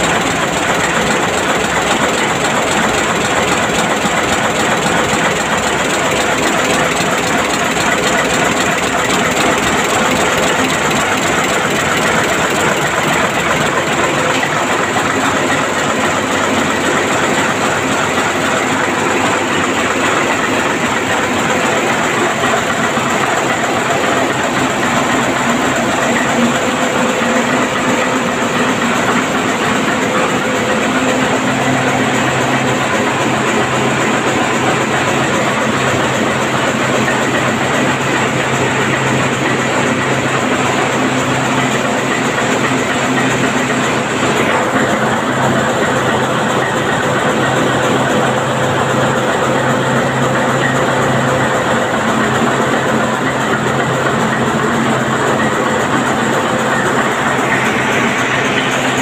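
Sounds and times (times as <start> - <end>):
ship diesel engines running: 0.0 - 59.0.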